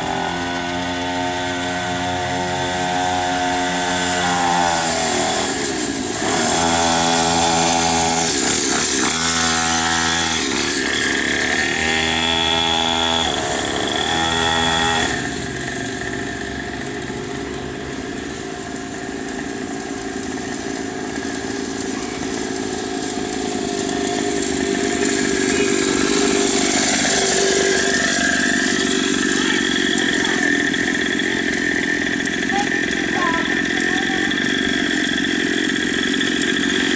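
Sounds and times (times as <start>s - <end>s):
two-stroke engine revving: 0.0s - 36.9s.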